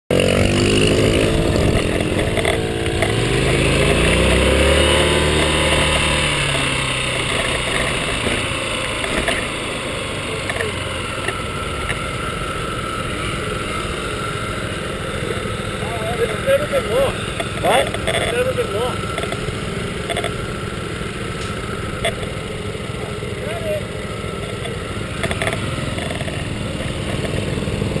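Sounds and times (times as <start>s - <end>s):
small motorbike engine revving: 0.1s - 28.0s.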